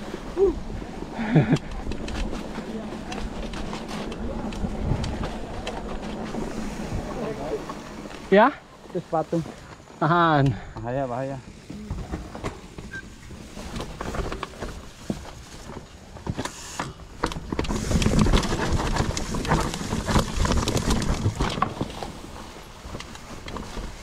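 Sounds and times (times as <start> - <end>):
bike rattling: 0.0 - 24.0
tyres crunching on dirt: 0.0 - 24.0.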